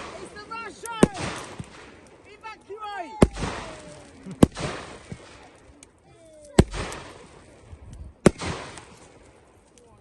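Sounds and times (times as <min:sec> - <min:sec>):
fireworks bangs: 0:00.0 - 0:05.9, 0:06.5 - 0:09.5
fireworks crackle: 0:00.0 - 0:10.0.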